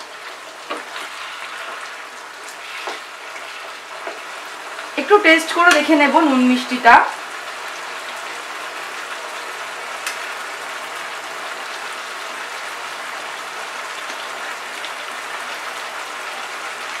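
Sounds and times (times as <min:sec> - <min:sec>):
curry sizzling in a pan: 0:00.0 - 0:17.0.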